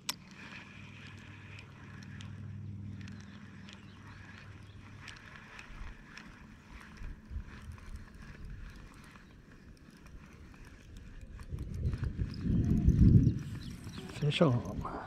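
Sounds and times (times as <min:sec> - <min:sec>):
fishing reel clicking: 0:00.0 - 0:15.0.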